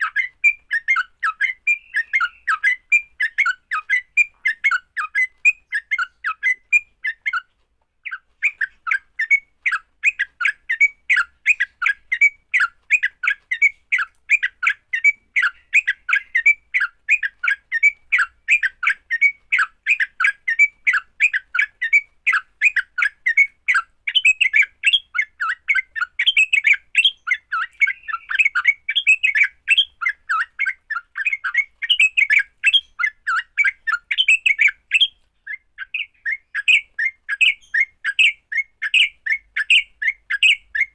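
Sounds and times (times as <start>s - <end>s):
birds harsh chirping calls: 0.0s - 40.9s.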